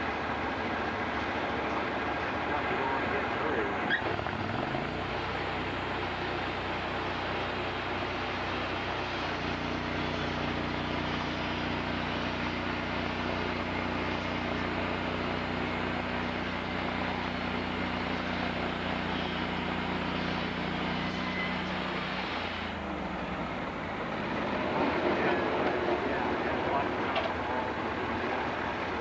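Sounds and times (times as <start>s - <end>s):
broad mechanical noise: 0.0s - 29.0s
sawmill engine running: 0.0s - 29.0s.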